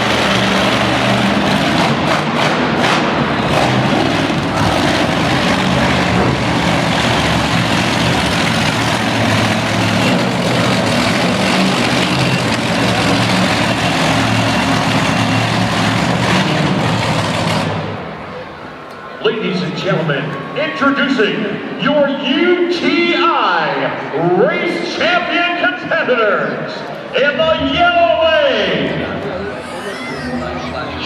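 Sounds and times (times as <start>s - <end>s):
monster truck engines running: 0.0s - 23.2s, 23.9s - 31.0s.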